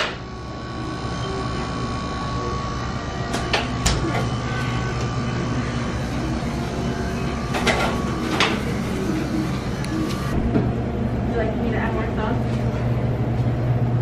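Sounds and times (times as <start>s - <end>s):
low hum of refrigerators: 0.0s - 14.0s.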